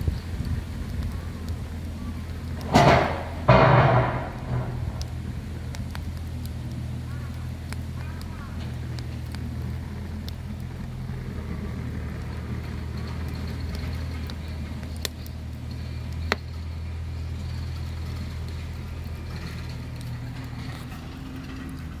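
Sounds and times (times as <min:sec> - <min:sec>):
sharp pops from fire: 0:00.0 - 0:22.0
steady low rumble: 0:00.0 - 0:22.0
wood fire crackling: 0:00.0 - 0:22.0.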